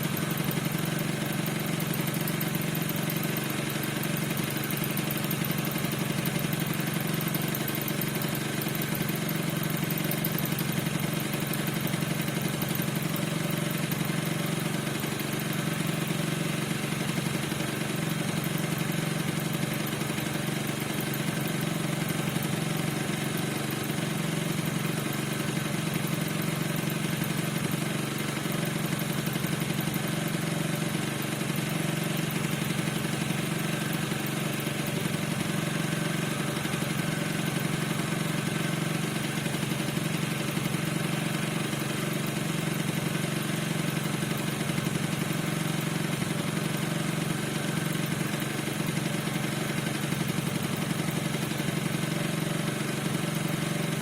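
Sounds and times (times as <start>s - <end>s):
scooter engine idling: 0.0s - 54.0s.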